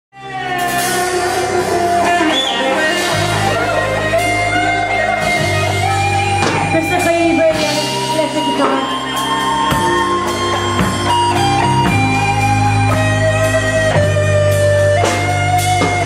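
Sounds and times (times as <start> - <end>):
bass line: 0.2 - 16.0
guitar-led song: 0.2 - 16.0.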